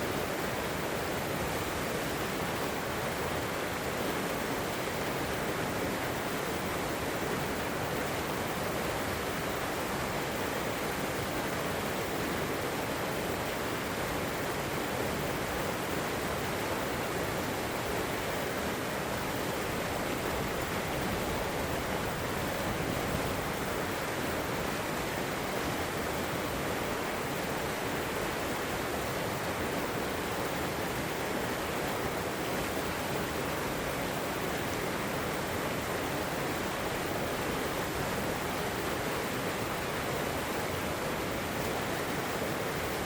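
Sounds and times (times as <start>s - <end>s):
water rushing over rocks: 0.0s - 43.0s.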